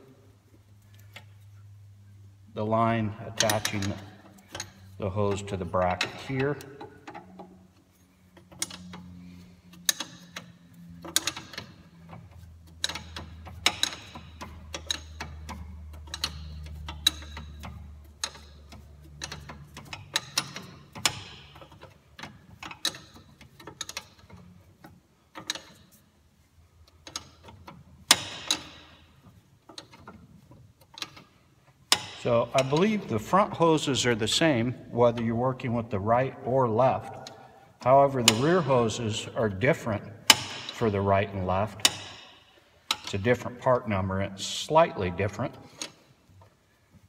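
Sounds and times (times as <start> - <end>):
steady low hum: 0.0 - 47.0
wrench clicking on metal: 2.7 - 26.0, 26.8 - 47.0.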